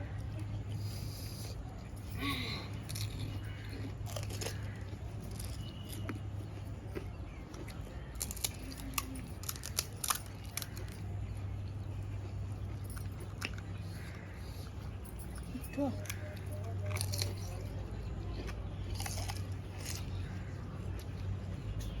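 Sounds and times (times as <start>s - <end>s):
crunchy shells being bitten: 2.2s - 21.2s.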